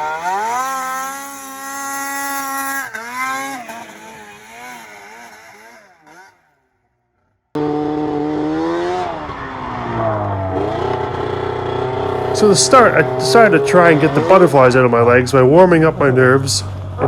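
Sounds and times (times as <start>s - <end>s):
snowmobile engine revving: 0.0s - 6.6s, 7.6s - 17.0s.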